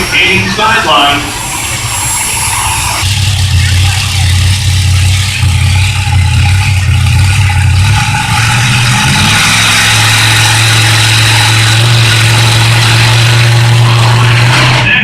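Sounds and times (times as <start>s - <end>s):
thin high whine: 0.0s - 14.4s
tractor engine rough drone: 0.0s - 15.0s.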